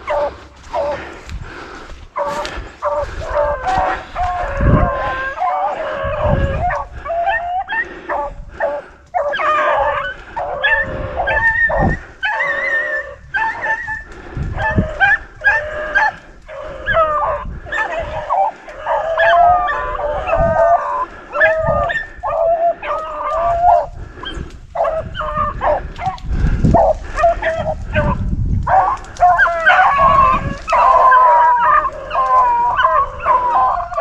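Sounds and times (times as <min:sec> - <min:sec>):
hounds baying: 0:00.0 - 0:34.0.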